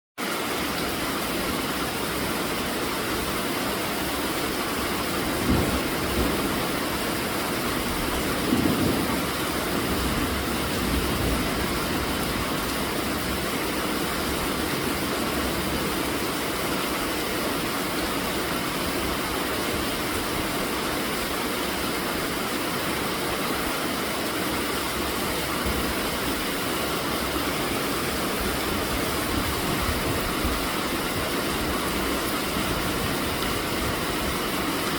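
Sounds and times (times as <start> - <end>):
steady rainfall: 0.2 - 34.9.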